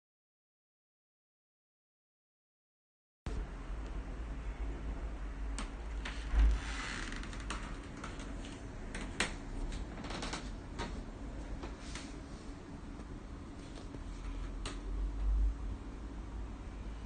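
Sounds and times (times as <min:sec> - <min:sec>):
steady low rumble: 0:03.3 - 0:17.0.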